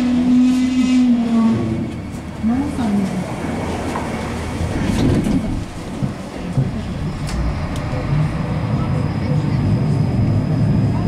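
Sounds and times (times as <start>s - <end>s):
tram running gear rumble: 0.0s - 11.0s.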